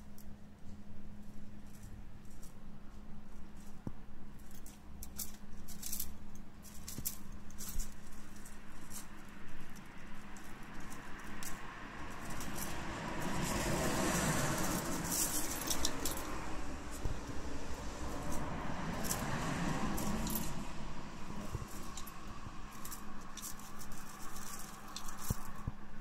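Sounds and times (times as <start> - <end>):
puppy tugging at brush bristles: 3.4 - 26.0.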